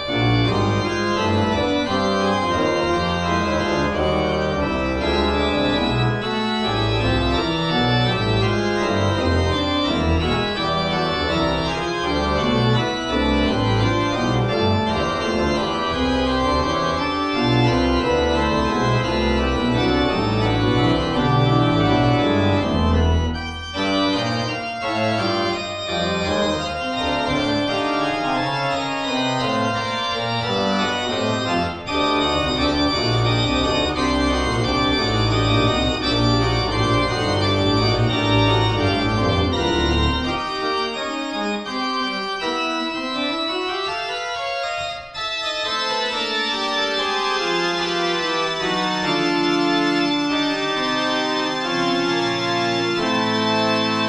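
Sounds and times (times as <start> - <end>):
deep organ pedal bass: 0.0 - 54.0
pipe organ chords: 0.0 - 54.0.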